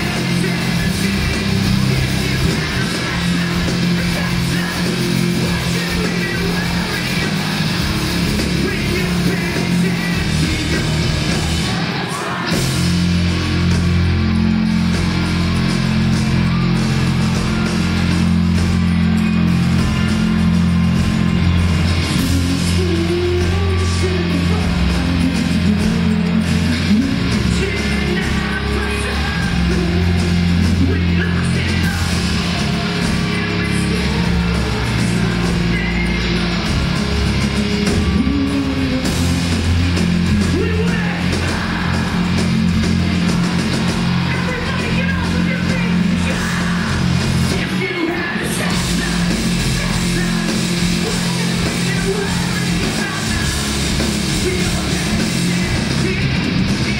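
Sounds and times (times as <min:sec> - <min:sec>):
person singing: 0:00.0 - 0:13.7, 0:22.0 - 0:56.9
bass guitar: 0:00.0 - 0:56.9
distorted electric guitars: 0:00.0 - 0:56.9
drums: 0:00.0 - 0:56.9.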